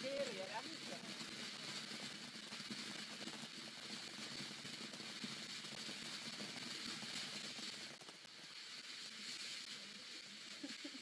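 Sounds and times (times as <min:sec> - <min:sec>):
faint crackles: 0:00.0 - 0:11.0
firework fountain hissing: 0:00.0 - 0:11.0.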